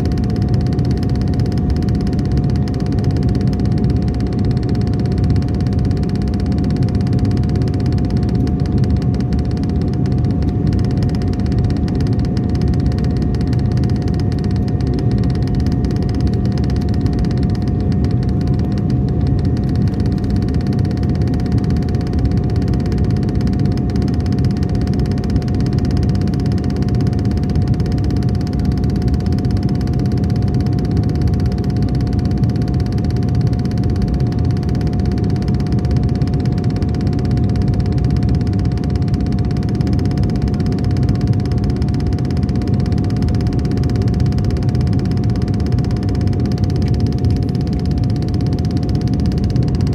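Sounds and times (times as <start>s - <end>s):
low roar of engines and airflow: 0.0s - 49.9s
steady whining tone: 0.0s - 49.9s.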